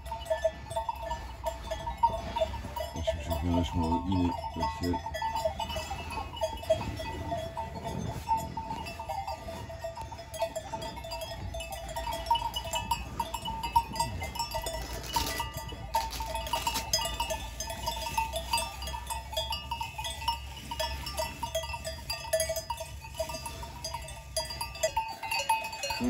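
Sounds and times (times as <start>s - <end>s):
cow bells clanking: 0.0s - 26.0s.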